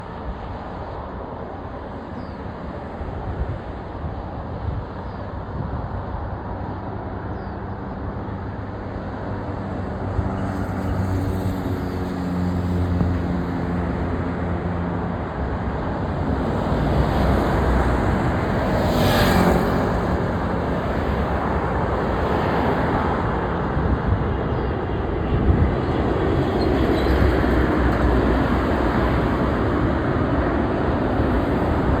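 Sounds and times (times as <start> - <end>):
airplane engines roaring: 0.0 - 32.0.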